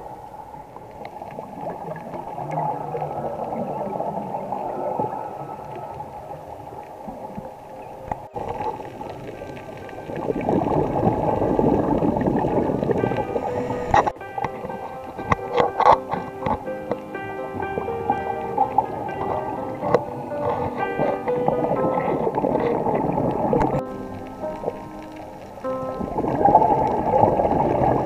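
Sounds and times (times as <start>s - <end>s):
underwater bubbles gurgling: 0.0s - 28.0s.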